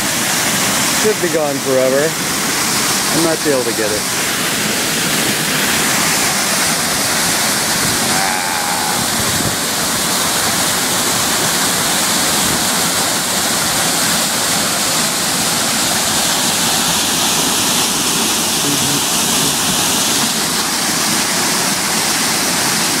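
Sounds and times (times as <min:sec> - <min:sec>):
waterfall rushing into pool: 0:00.0 - 0:23.0.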